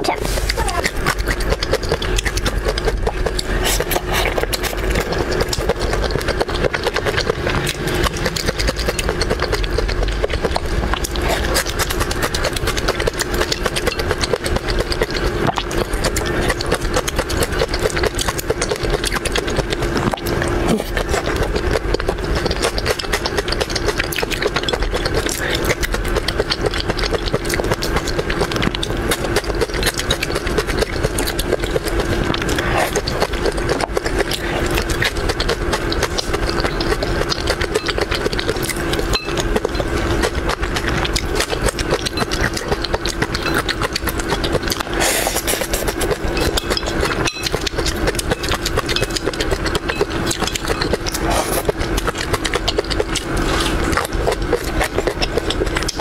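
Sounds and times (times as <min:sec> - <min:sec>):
steady low hum: 0:00.0 - 0:56.0
wet chewing: 0:00.0 - 0:56.0.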